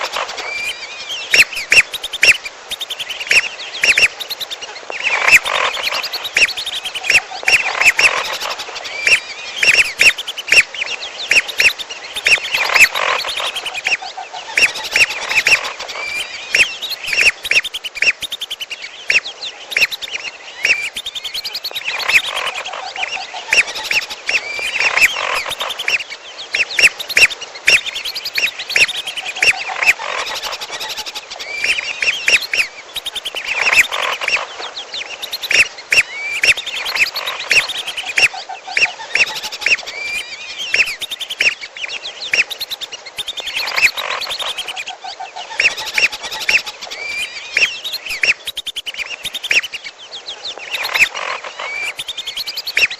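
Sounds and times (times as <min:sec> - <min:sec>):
whistling duck flock calls: 0:00.0 - 0:49.9, 0:50.6 - 0:52.9
bird calls: 0:00.0 - 0:52.9.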